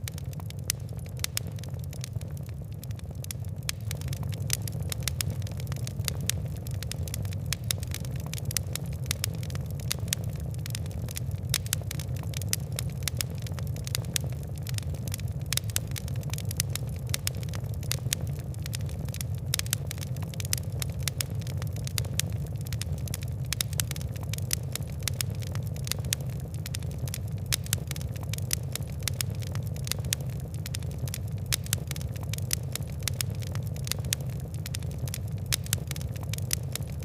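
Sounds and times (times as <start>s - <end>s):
fire crackling: 0.0s - 37.0s.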